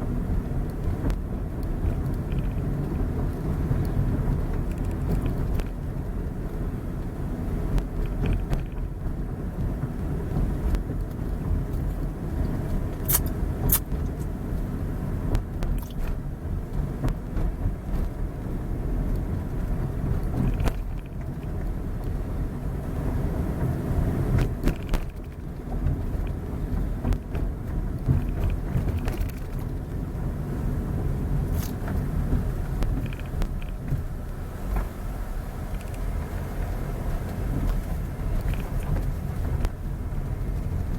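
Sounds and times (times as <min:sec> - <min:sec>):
motor vehicle rumbling: 0:00.0 - 0:40.9.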